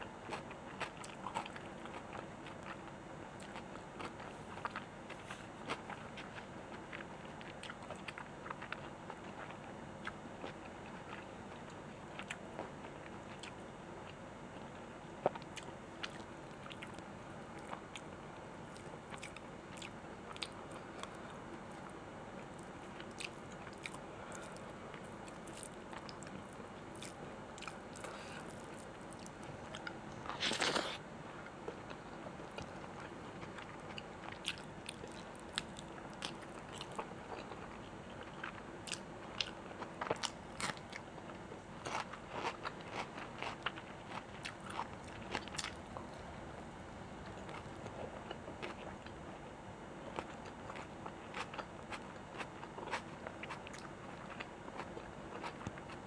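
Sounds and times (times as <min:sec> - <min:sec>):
person chewing food: 0:00.2 - 0:17.0, 0:18.7 - 0:21.9, 0:22.5 - 0:46.3, 0:47.2 - 0:49.2, 0:50.0 - 0:56.0.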